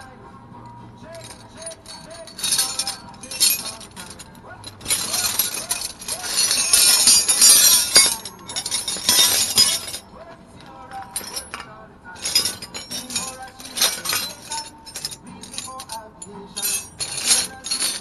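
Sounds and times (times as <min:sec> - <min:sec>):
metal hand tools clinking: 0:01.1 - 0:18.0.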